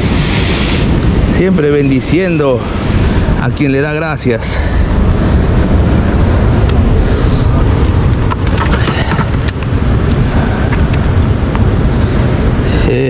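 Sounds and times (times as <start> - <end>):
surf on the shore: 0.0 - 13.0
wind buffeting the microphone: 0.0 - 13.0.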